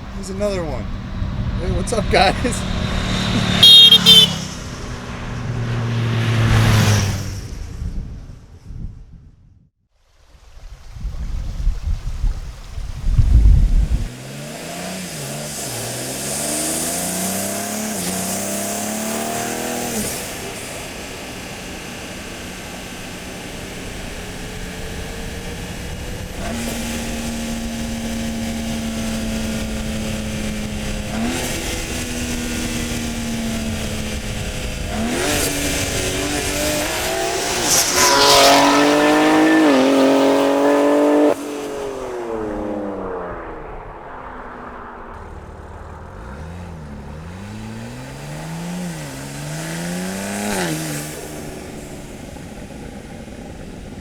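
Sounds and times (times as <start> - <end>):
car engine accelerating past: 0.0 - 8.5, 13.2 - 54.0.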